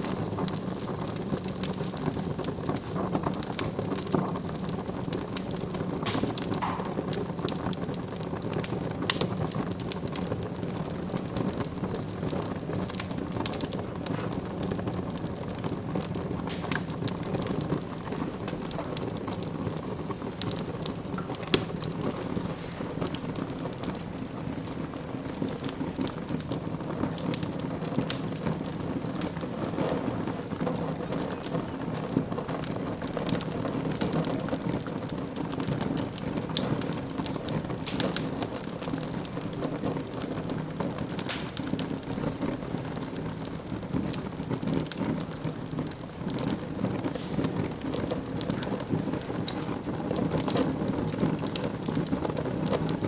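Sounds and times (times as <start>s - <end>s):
low rumble of flames: 0.0s - 53.0s
sharp fire pops: 0.0s - 53.0s
wood fire crackling: 0.0s - 53.0s.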